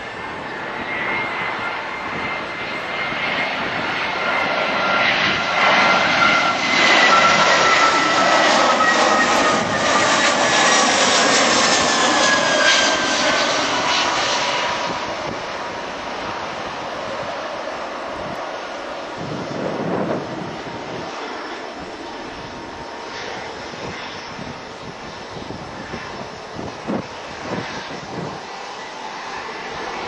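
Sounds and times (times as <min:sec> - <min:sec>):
jet airliner passing overhead: 0:00.0 - 0:30.0.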